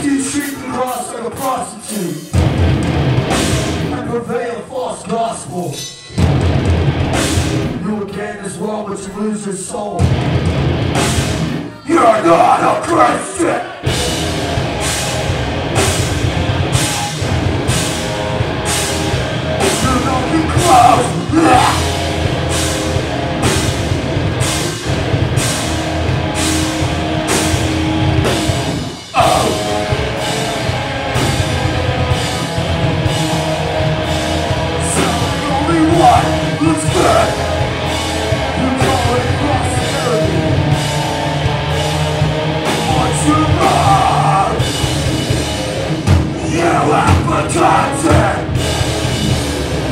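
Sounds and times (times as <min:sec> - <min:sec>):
heavy rock band playing: 0:00.0 - 0:49.9
rock vocals: 0:00.0 - 0:49.9.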